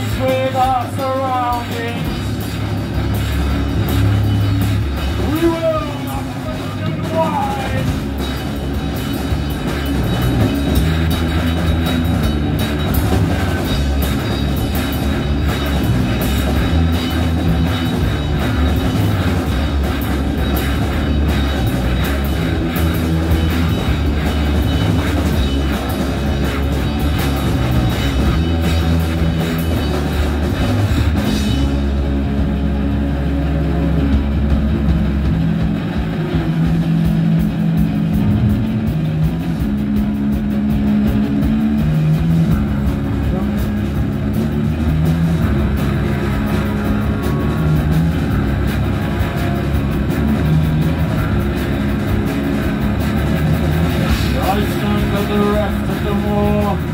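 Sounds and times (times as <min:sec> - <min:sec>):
electric guitars ringing: 0:00.0 - 0:56.9
rock band playing: 0:00.0 - 0:56.9.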